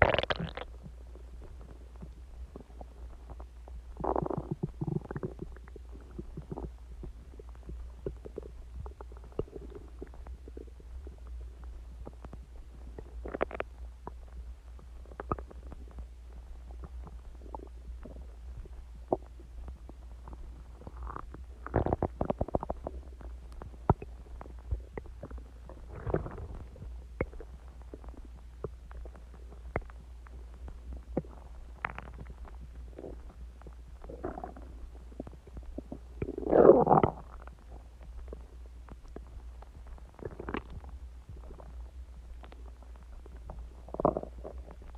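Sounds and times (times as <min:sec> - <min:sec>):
steady low hum: 0:00.0 - 0:44.9
stomach gurgling and popping: 0:00.0 - 0:44.9.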